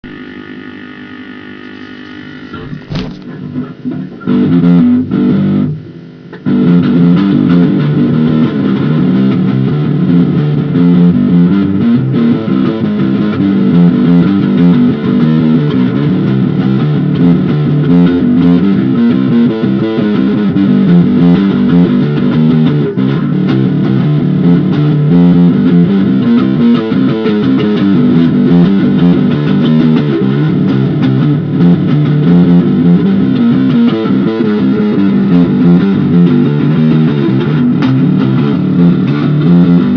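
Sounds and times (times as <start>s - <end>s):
bass guitar playing: 0.0s - 39.9s.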